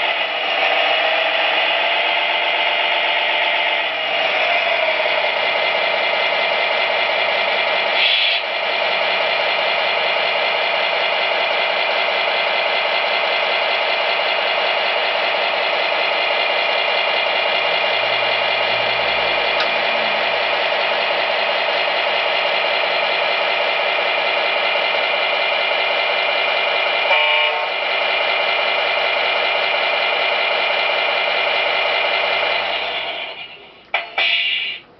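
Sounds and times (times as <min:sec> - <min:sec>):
truck engine sound from small speaker: 0:00.0 - 0:31.4, 0:32.1 - 0:34.9.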